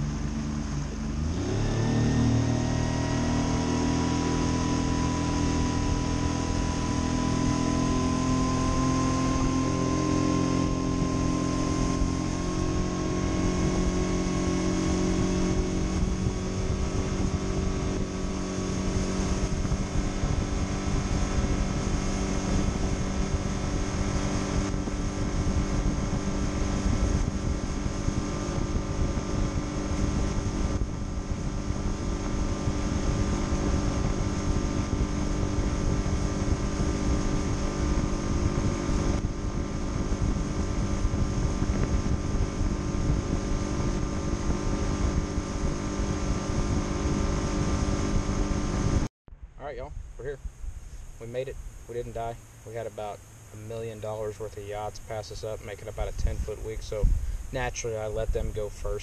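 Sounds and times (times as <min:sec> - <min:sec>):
outboard motor running: 0:00.0 - 0:49.1, 0:49.8 - 0:59.0
wind rushing over microphone: 0:00.0 - 0:59.0.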